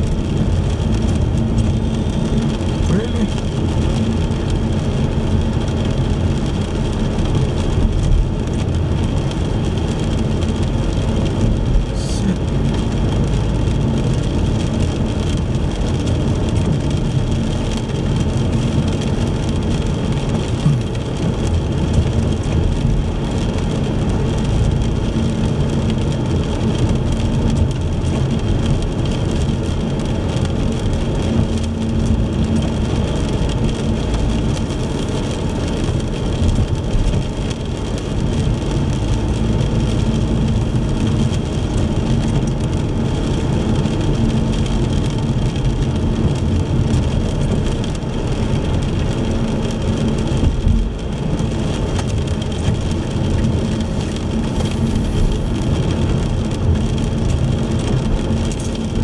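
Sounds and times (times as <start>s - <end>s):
car engine and tyre rumble: 0.0s - 59.0s
rain hiss on wet road: 0.0s - 59.0s.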